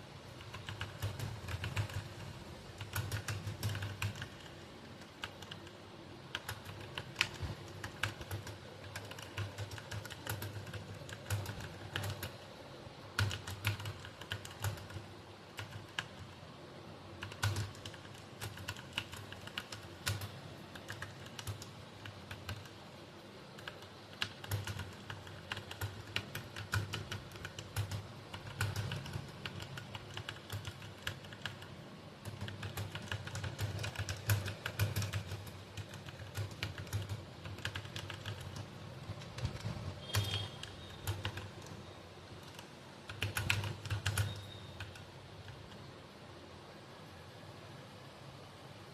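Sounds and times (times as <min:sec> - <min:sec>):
typing on computer keyboard: 0:00.0 - 0:46.1.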